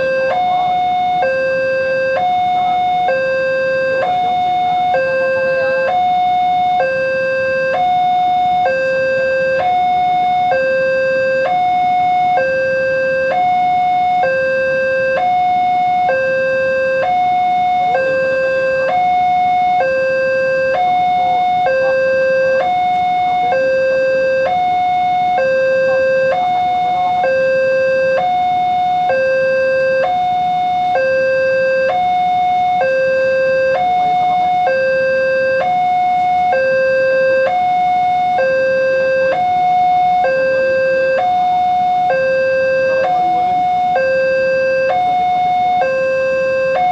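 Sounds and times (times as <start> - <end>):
two-tone level crossing alarm: 0.0 - 46.9.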